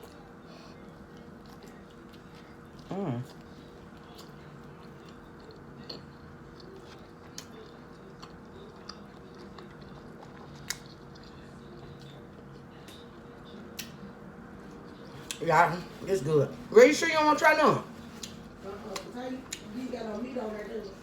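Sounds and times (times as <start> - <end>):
chewing sandwich: 0.0 - 16.0, 17.9 - 19.7
steady low hum: 0.0 - 21.0.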